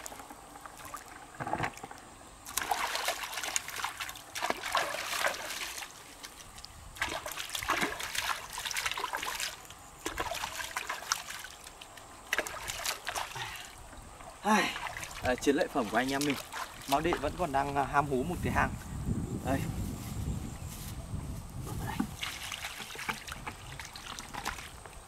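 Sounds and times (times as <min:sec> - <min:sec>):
wading through muddy water: 0:00.0 - 0:18.7, 0:21.6 - 0:25.0.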